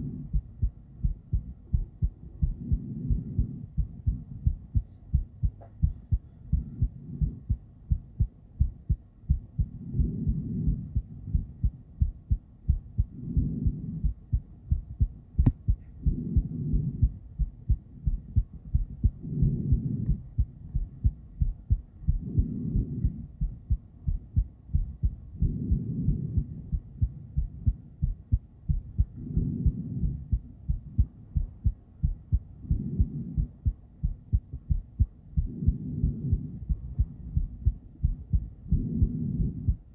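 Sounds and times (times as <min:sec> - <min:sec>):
doppler heartbeat whooshing thumps: 0:00.0 - 0:39.9.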